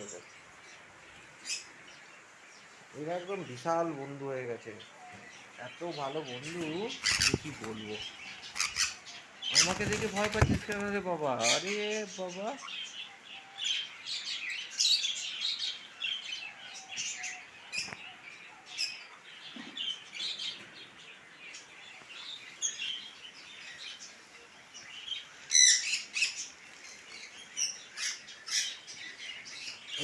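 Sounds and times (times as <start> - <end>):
parrots chirping and chattering: 0.0 - 3.7, 4.6 - 30.0.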